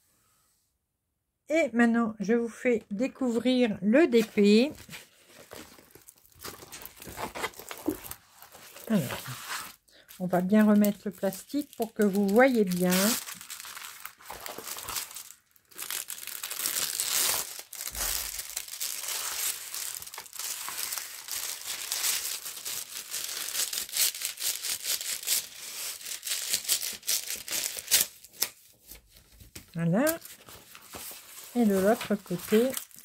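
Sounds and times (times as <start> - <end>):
plastic film crinkling: 4.1 - 33.0.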